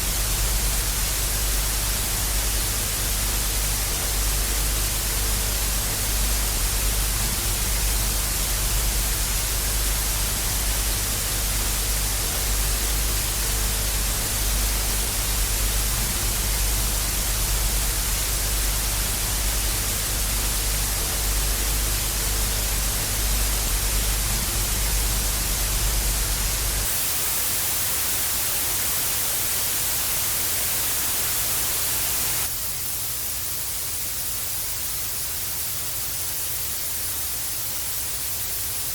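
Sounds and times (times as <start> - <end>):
tv static hiss: 0.0 - 38.9.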